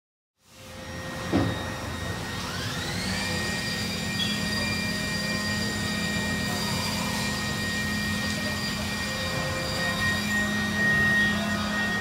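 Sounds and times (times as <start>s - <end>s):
high-pitched machine whine: 0.4s - 12.0s
machine drone: 0.4s - 12.0s.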